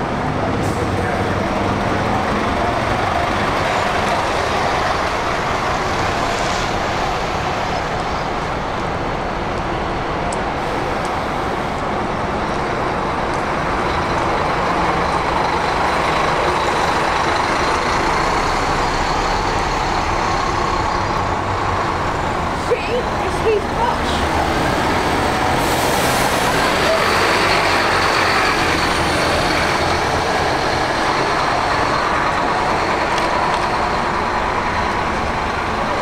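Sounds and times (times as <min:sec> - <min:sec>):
diesel bus engine running: 0:00.0 - 0:36.0
road noise: 0:00.0 - 0:36.0.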